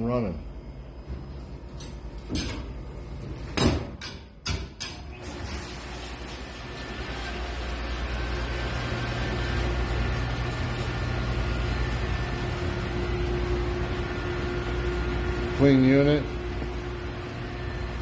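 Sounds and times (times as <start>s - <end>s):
dishwasher motor hum and rushing: 1.0s - 18.0s.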